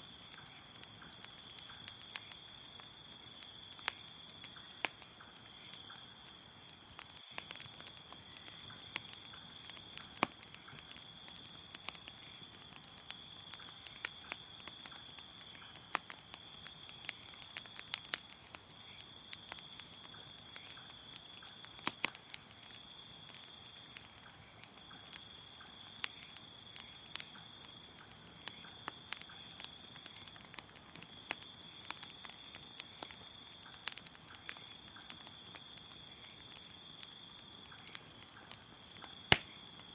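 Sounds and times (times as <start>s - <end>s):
crackling wood fire: 0.0s - 39.9s
crickets chirping: 0.0s - 39.9s.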